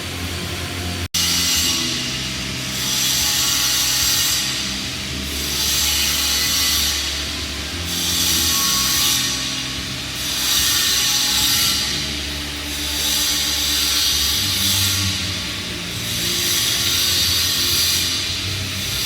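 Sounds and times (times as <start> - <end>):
low steady hum: 0.0 - 19.0
welding arc crackling hiss: 0.0 - 19.0.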